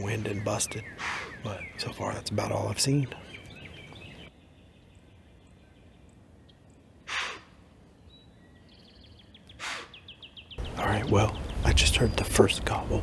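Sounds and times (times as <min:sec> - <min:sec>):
faint bird chirps: 0:00.0 - 0:12.5.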